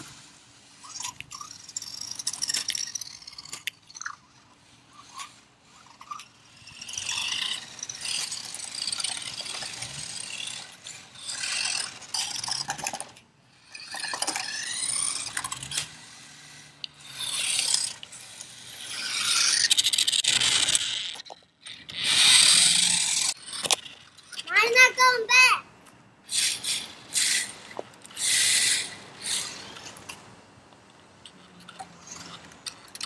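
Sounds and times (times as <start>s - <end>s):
wheels rasping on floor: 0.0s - 24.4s, 26.3s - 30.2s
toy car electric motor whining: 0.0s - 25.1s, 26.3s - 30.2s.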